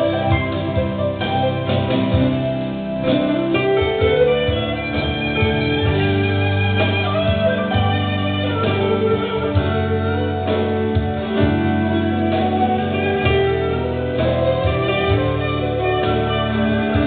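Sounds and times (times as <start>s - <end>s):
electronic keyboard chords: 0.0s - 17.0s.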